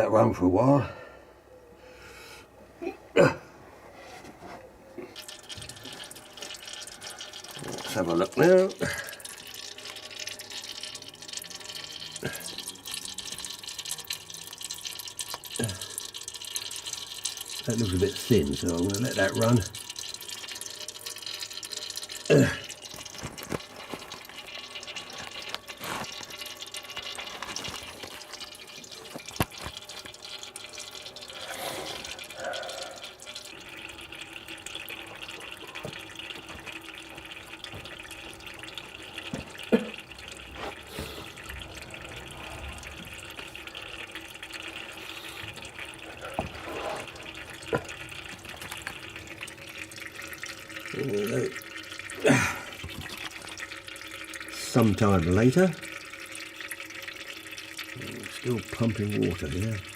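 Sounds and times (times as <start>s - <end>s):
oil running into a container: 4.3s - 59.9s.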